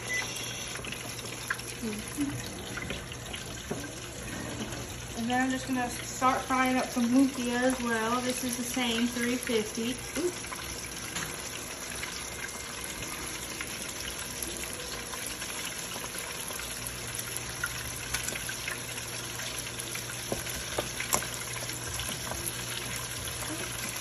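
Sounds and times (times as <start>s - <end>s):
hot oil sizzling and bubbling: 0.0s - 24.0s.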